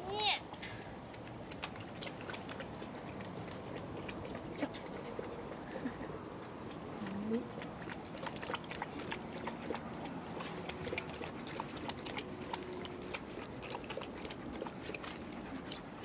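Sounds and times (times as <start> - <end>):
dog lapping water: 0.4 - 16.0.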